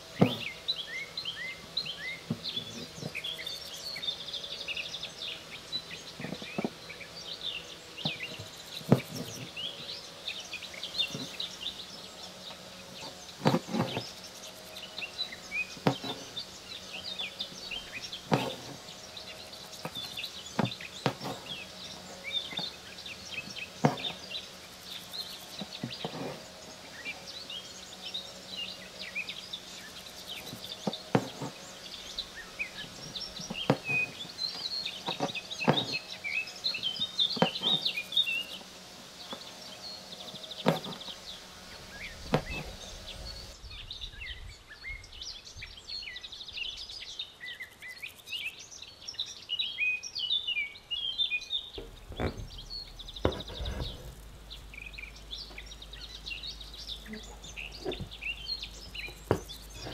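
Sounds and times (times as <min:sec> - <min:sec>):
faint steady hum: 0:00.0 - 0:59.9
small birds chirping: 0:00.0 - 0:59.9.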